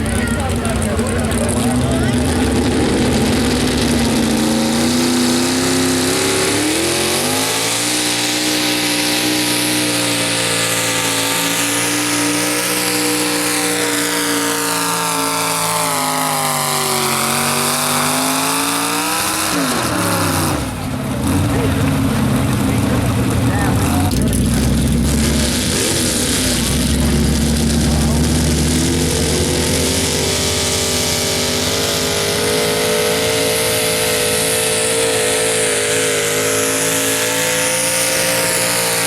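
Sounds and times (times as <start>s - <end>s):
truck engine revving under load: 0.0s - 39.0s.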